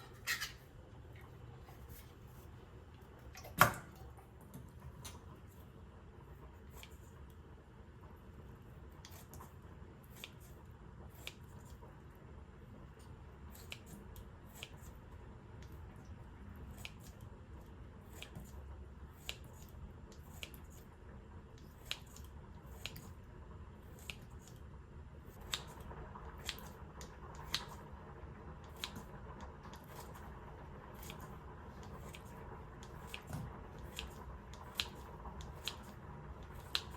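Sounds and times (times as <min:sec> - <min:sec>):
low steady hum: 0:00.0 - 0:36.9.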